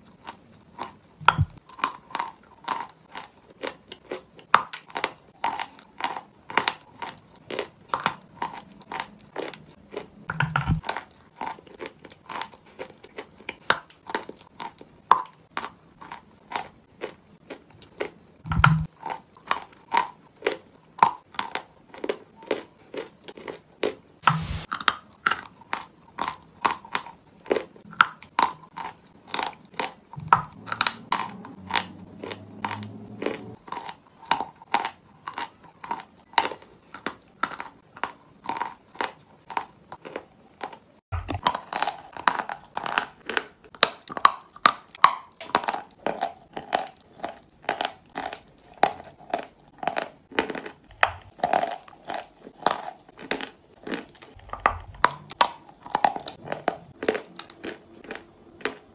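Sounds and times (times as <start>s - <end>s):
chewing chalk crunches: 0.0s - 58.9s.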